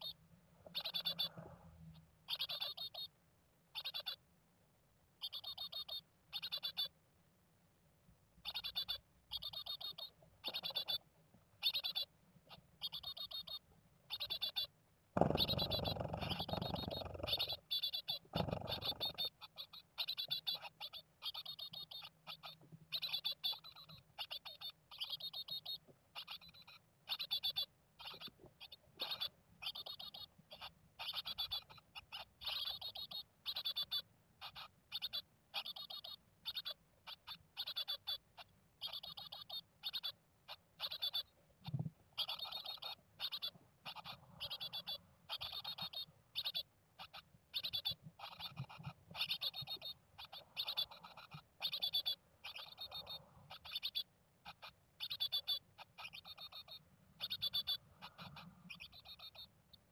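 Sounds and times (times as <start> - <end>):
nestlings calling: 0.0 - 1.5, 2.2 - 4.2, 5.2 - 7.0, 8.4 - 59.9.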